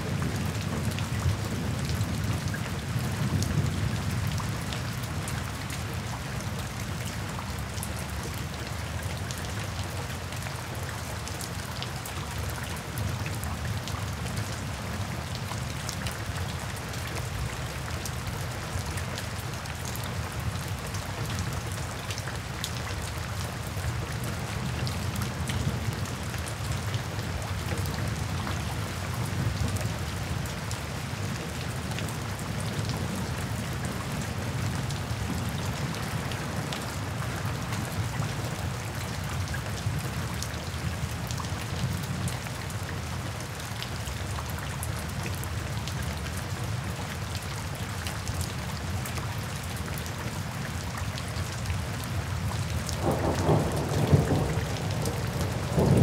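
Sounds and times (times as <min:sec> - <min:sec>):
rain on a roof: 0:00.0 - 0:56.0.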